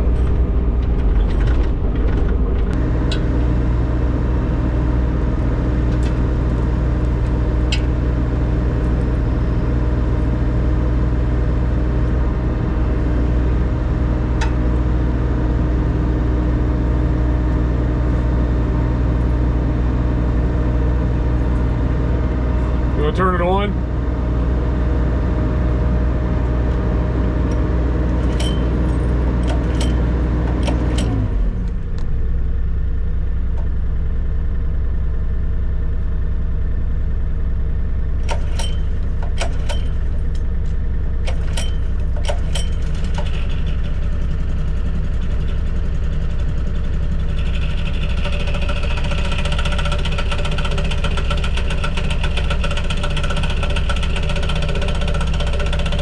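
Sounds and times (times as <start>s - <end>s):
construction machine engines running: 0.0s - 56.0s.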